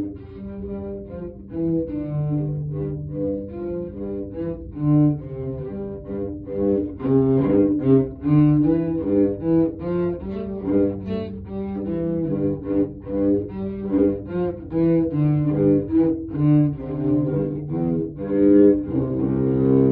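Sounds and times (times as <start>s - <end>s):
cello bowed notes: 0.0s - 19.9s.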